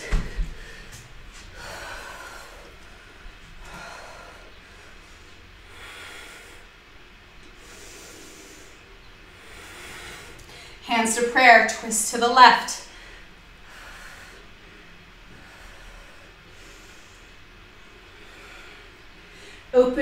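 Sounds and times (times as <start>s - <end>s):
woman breathing slowly: 0.0s - 10.9s, 12.8s - 19.8s
faint low hum: 0.0s - 20.0s.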